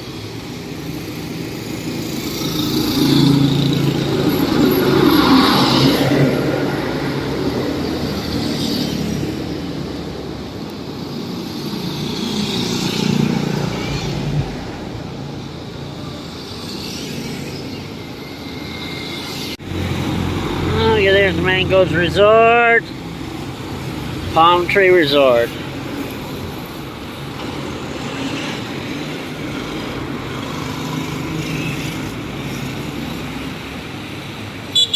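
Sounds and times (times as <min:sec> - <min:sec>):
highway traffic passing: 0:00.0 - 0:34.9.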